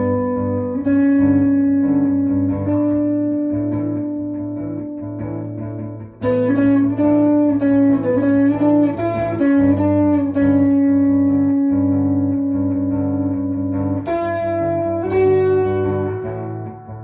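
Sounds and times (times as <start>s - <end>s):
electric guitar playing: 0.0s - 17.0s.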